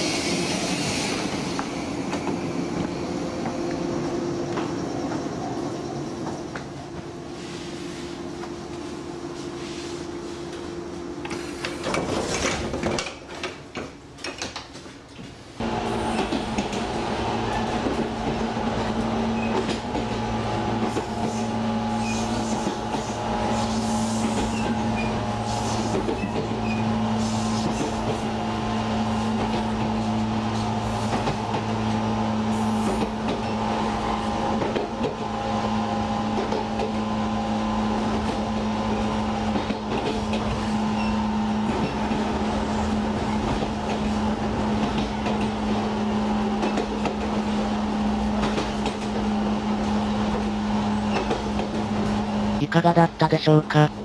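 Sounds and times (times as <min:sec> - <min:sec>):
train interior hum: 0:00.0 - 0:54.0
train rolling noise: 0:00.0 - 0:54.0.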